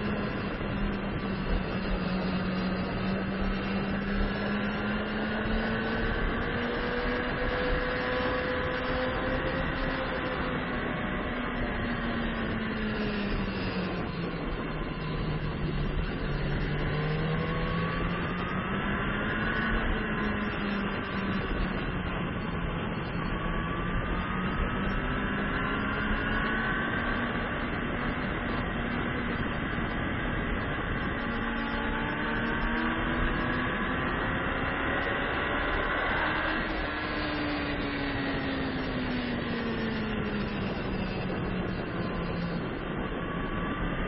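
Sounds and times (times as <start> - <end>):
motorcycle engine revving: 0.0 - 44.0
rush of wind noise: 0.0 - 44.0.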